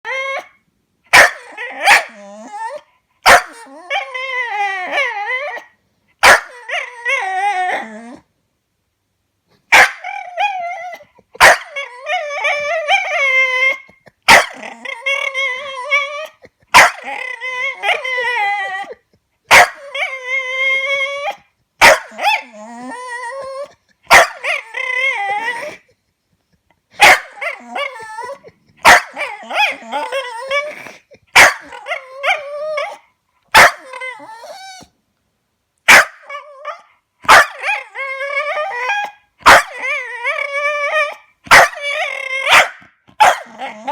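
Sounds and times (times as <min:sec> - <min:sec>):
dog howling and whining: 0:00.0 - 0:08.3, 0:09.7 - 0:26.0, 0:27.0 - 0:35.0, 0:35.9 - 0:43.9.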